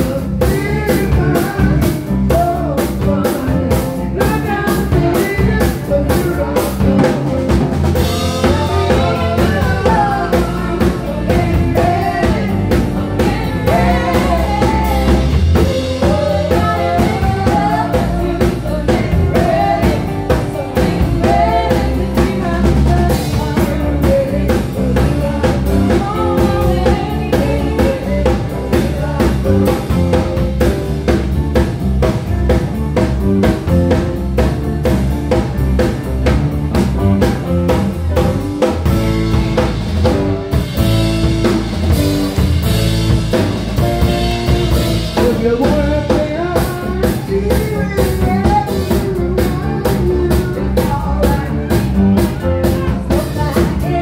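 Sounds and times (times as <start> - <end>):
person singing: 0.0 - 30.9, 37.2 - 54.0
bass guitar: 0.0 - 54.0
drum kit with cymbals: 0.0 - 54.0
electric guitar: 0.0 - 54.0.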